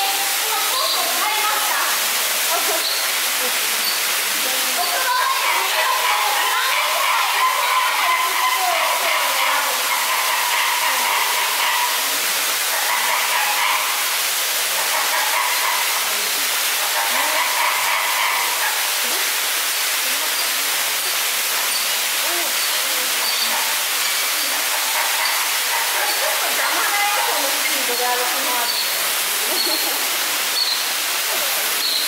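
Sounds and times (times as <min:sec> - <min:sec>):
falling water hissing: 0:00.0 - 0:32.0.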